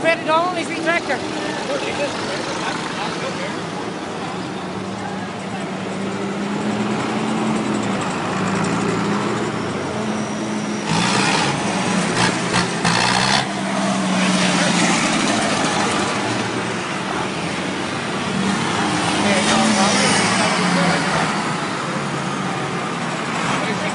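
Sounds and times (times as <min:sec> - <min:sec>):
tractor engines running: 0:00.0 - 0:23.9.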